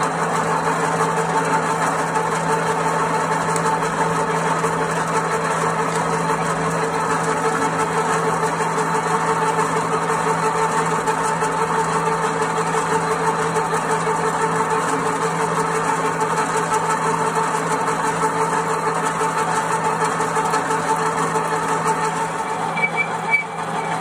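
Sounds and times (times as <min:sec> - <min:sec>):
drilling machine boring into metal: 0:00.0 - 0:24.0.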